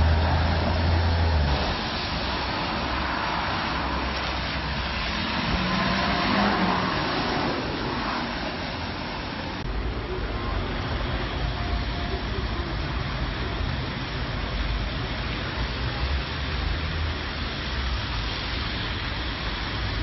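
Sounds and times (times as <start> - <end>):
city street traffic: 0.0 - 20.0
trolleybus driving past: 0.0 - 20.0.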